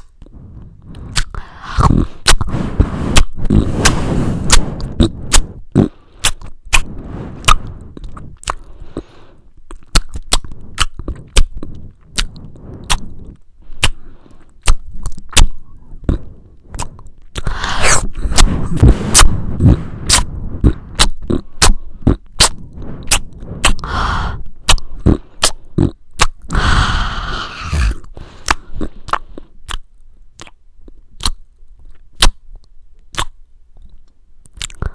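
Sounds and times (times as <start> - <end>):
chewing and mouth sounds: 0.0 - 24.0, 24.6 - 26.8, 27.6 - 34.9.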